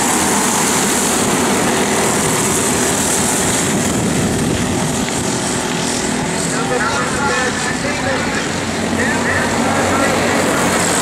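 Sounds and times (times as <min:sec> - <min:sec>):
go-kart engines racing: 0:00.0 - 0:11.0.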